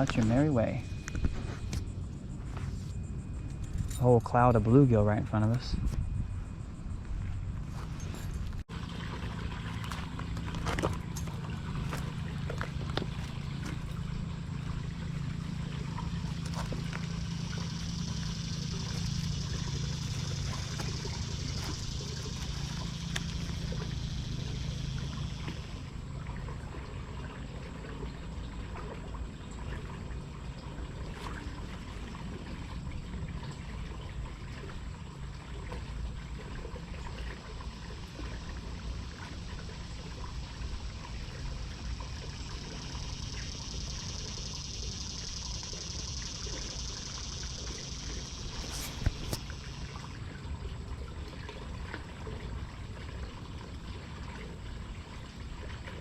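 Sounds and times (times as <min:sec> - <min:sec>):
low hum: 0:00.0 - 0:56.0
water trickling and pouring: 0:07.6 - 0:56.0.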